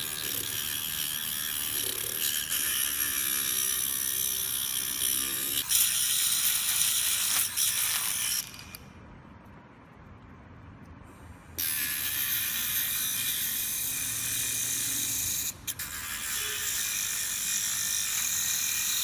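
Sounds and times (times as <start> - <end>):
electric motor tool grinding: 0.0 - 8.8, 11.6 - 19.0.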